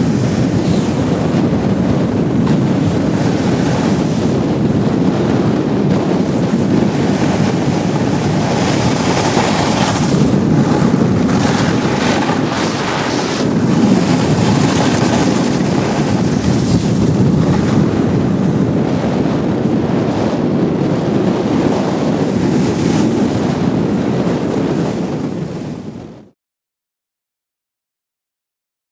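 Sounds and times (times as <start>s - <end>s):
wind buffeting microphone: 0.0s - 26.4s.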